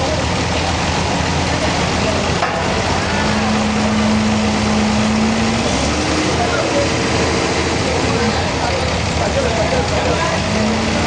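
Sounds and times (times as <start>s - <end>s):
sawmill machinery running: 0.0s - 11.0s.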